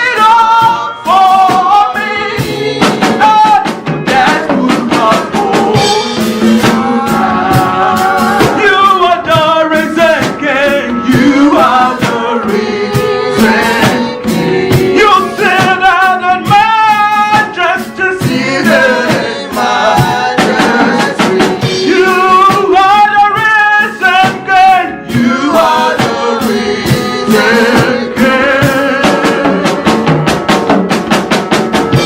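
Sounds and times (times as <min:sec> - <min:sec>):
band with drums: 0:00.0 - 0:32.0.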